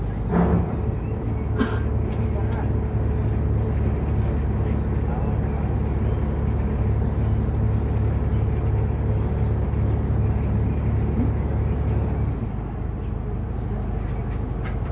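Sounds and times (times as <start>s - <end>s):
boat engine humming: 0.0s - 14.9s.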